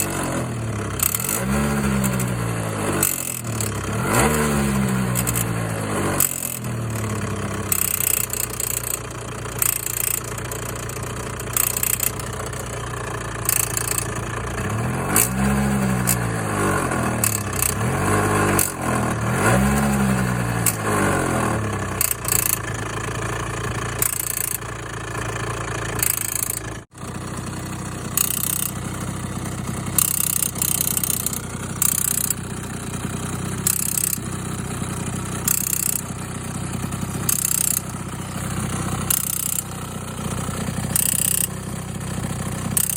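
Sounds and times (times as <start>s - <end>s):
loud engine clicking: 0.0s - 42.9s
scooter engine idling and revving: 0.0s - 42.9s.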